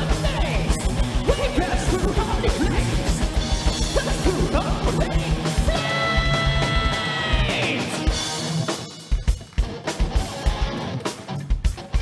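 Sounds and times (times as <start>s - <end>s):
heavy metal music: 0.0s - 12.0s.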